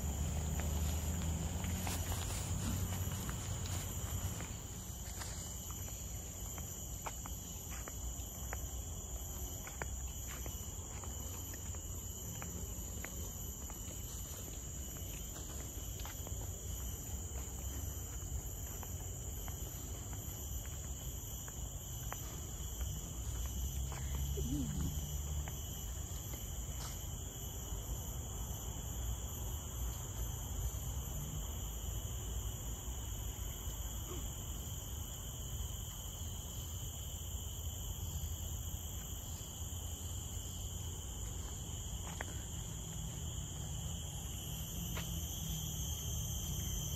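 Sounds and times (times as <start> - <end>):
faint scattered ticks: 0.0 - 46.9
high-pitched insect drones: 0.0 - 46.9.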